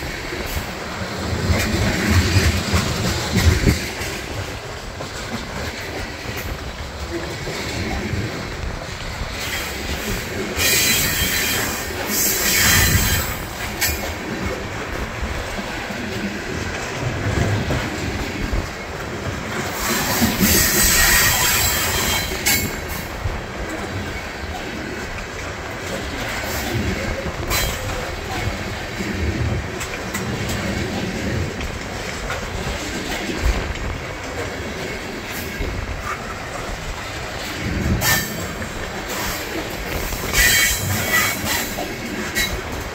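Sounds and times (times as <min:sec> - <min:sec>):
steel wheels rumbling on rails: 0:00.0 - 0:42.9.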